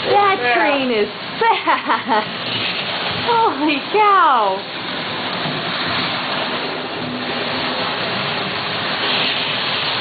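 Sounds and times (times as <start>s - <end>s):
model train whirring: 0.0s - 10.0s.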